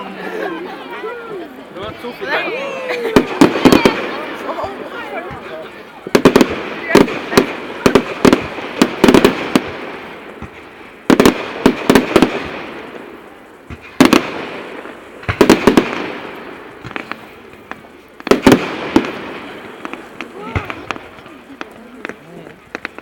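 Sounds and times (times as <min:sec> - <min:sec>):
fireworks rumble: 0:00.0 - 0:23.0
fireworks bangs: 0:00.8 - 0:23.0.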